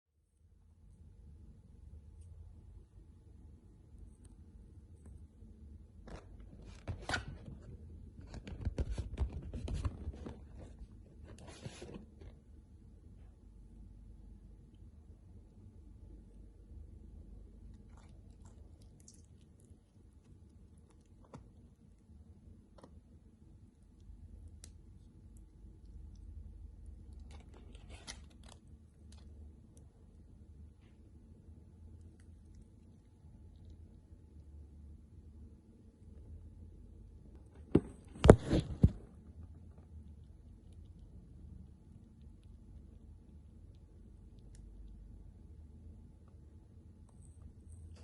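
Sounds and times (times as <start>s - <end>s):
low steady hum: 0.1s - 48.0s.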